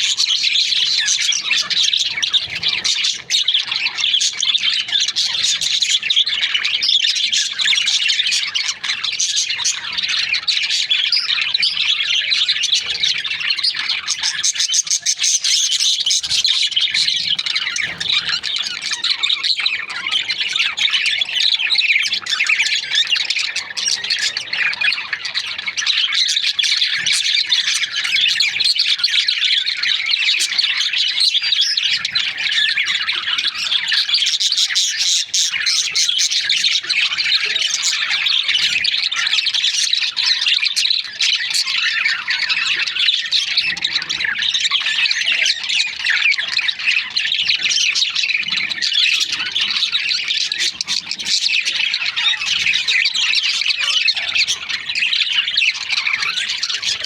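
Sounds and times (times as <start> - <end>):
budgies chattering: 0.0 - 57.0.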